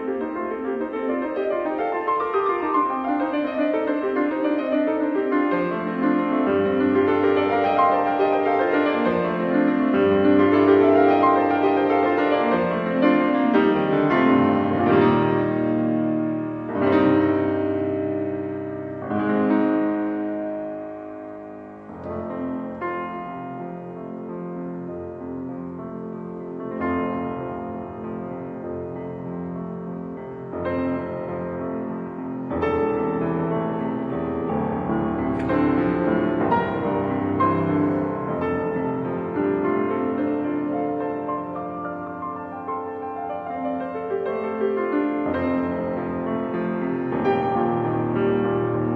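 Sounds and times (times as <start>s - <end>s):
slow piano chords: 0.0s - 48.9s.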